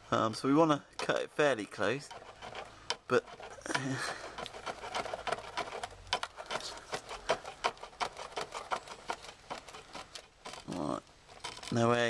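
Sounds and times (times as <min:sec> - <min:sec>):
blade sawing plastic line: 0:01.0 - 0:12.0.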